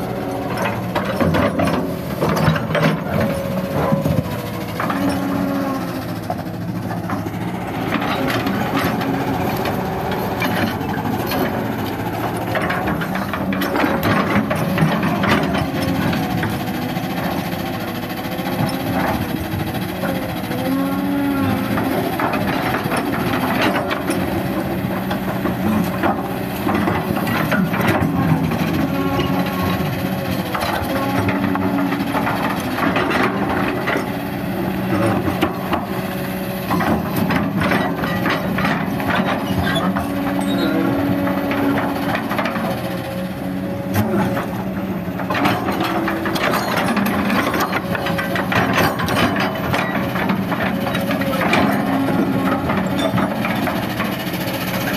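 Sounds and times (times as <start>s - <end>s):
excavator diesel engine: 0.0s - 54.9s.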